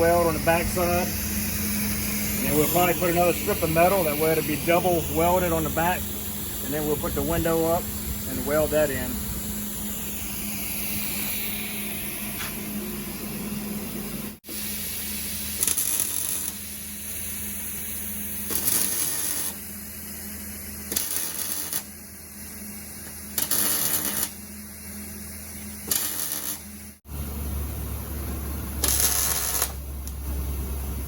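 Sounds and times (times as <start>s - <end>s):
welding bursts: 0.0s - 12.4s, 14.4s - 27.0s, 28.7s - 30.4s
steady background hum: 0.0s - 31.0s.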